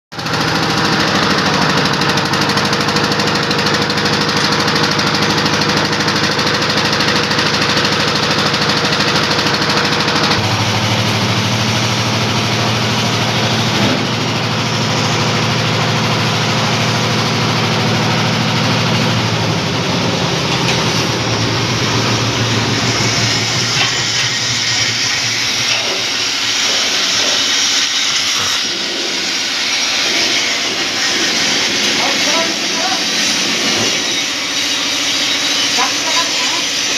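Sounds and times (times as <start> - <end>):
concrete mixer engine running: 0.1 - 36.9.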